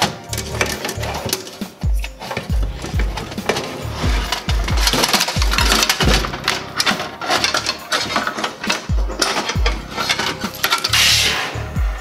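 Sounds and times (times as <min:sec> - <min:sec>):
metallic clinking and rattling: 0:00.0 - 0:11.5
background music with low beat: 0:00.0 - 0:12.0.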